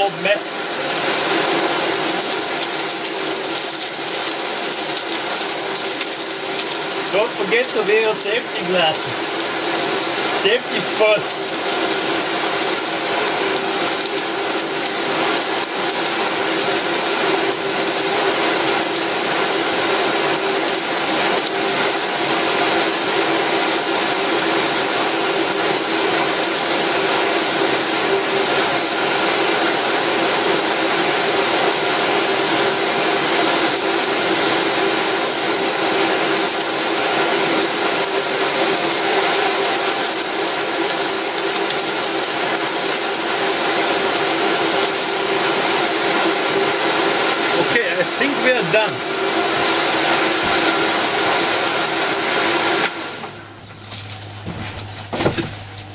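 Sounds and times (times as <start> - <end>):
electric fan humming: 0.0 - 55.9.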